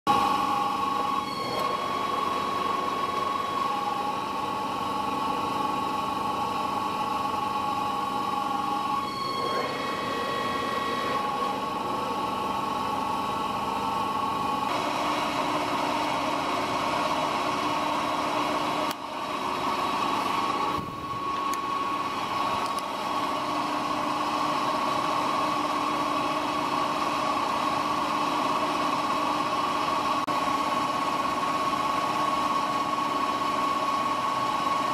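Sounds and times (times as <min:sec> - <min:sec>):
lathe gears whining: 0:00.1 - 0:34.9.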